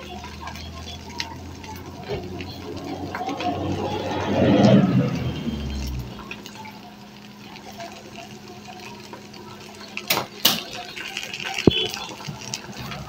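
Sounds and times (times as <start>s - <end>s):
tortilla frying in a pan: 0.0s - 13.0s.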